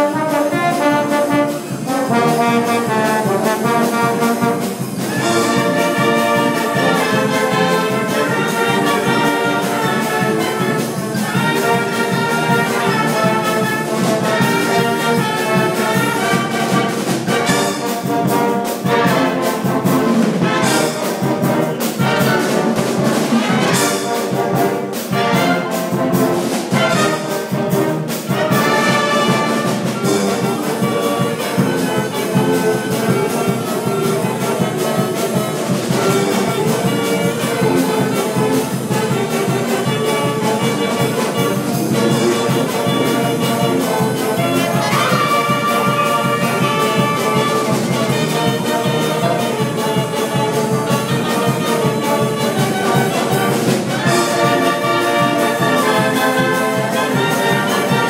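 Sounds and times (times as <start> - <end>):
wind band playing a tune: 0.0 - 58.0.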